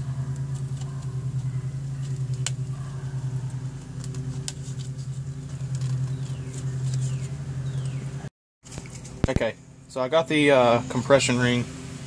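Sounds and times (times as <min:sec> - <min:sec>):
motor humming with rapid pulse: 0:00.0 - 0:09.9.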